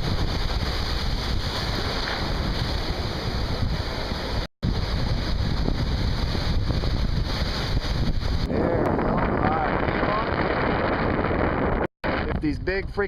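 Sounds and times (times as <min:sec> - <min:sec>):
sea waves: 0:00.0 - 0:10.7
wind buffeting microphone: 0:00.0 - 0:13.0.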